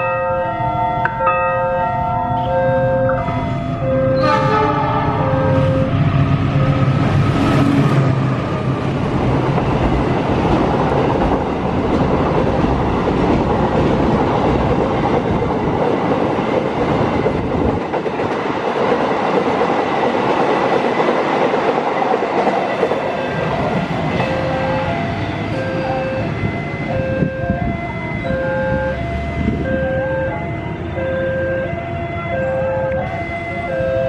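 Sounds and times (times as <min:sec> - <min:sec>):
diesel locomotive engine: 0:00.0 - 0:34.0
train wagons rumbling over rails: 0:00.0 - 0:34.0.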